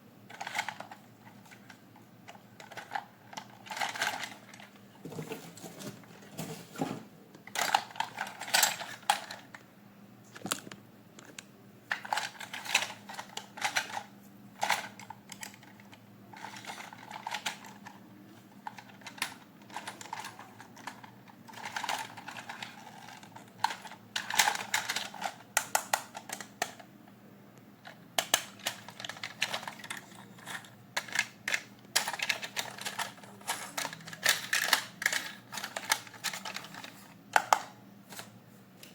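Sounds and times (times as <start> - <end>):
plastic and cardboard rustling: 0.3 - 9.6, 11.9 - 25.5, 28.4 - 38.9.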